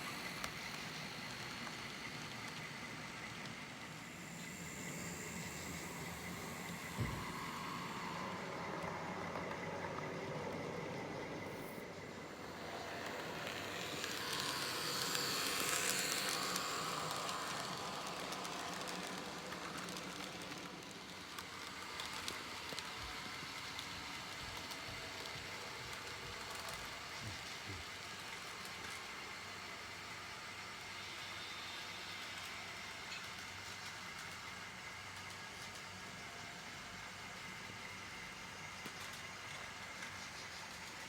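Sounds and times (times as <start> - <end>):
model train rumbling on track: 0.0 - 41.0.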